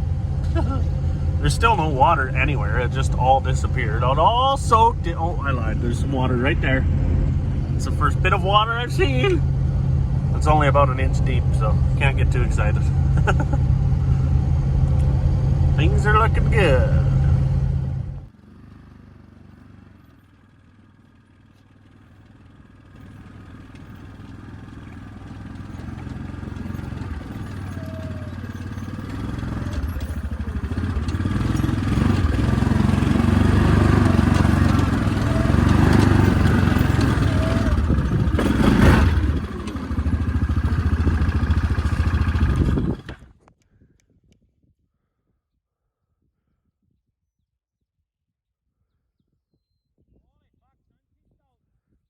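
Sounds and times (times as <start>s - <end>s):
vehicle driving on gravel: 0.0s - 43.4s.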